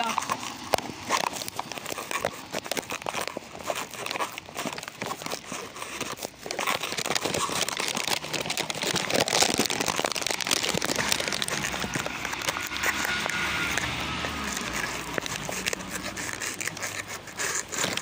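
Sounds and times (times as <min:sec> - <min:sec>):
crinkling rustle: 0:00.0 - 0:18.0.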